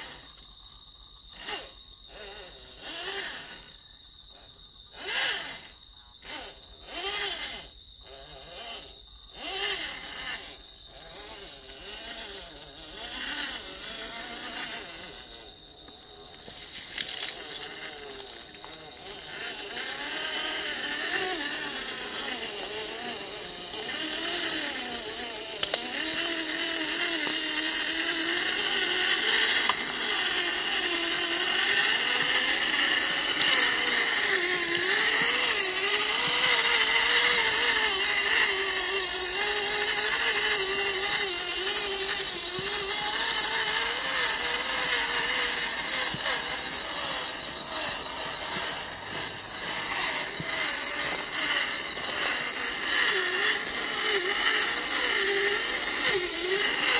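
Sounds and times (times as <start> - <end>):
electric motor and gearbox whining: 0.0 - 56.9.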